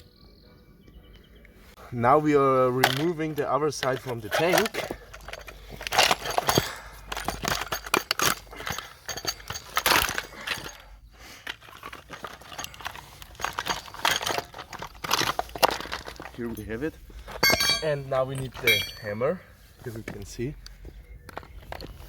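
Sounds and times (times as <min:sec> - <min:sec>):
hand tools clinking and knocking: 0:02.2 - 0:22.0.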